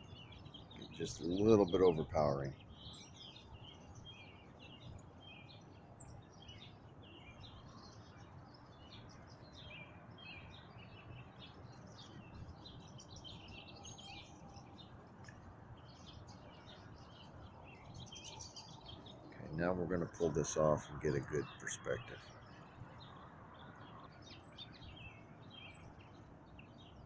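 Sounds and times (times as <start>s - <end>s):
bird singing chirping phrases: 0.0s - 27.0s.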